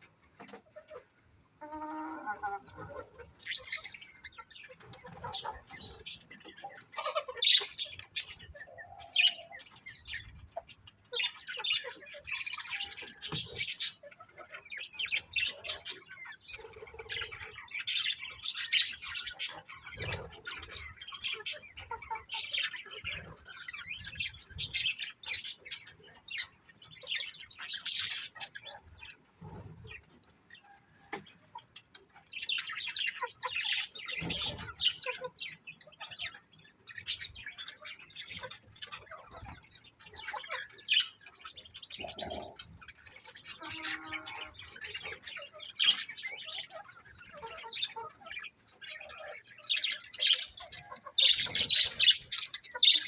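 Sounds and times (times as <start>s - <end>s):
budgerigars chirping: 2.6s - 30.7s, 31.6s - 53.0s.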